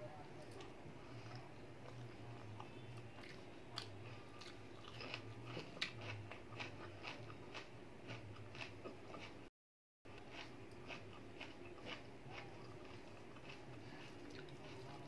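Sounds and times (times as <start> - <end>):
wet chewing: 0.4 - 9.4, 10.2 - 15.0.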